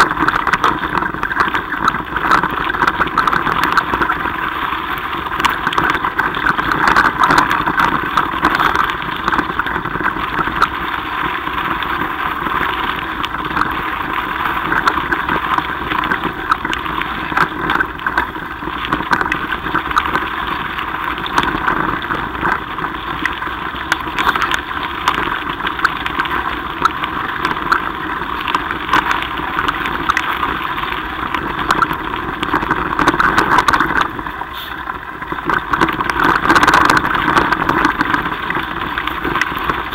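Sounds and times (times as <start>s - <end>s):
bike tyres rumbling on gravel: 0.0s - 39.9s.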